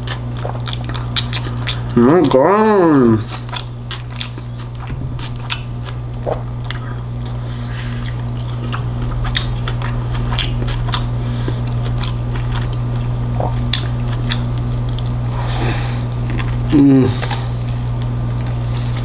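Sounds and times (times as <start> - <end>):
person chewing with wet smacks: 0.0 - 2.5, 3.2 - 15.3, 16.0 - 19.0
steady low hum: 0.0 - 19.0.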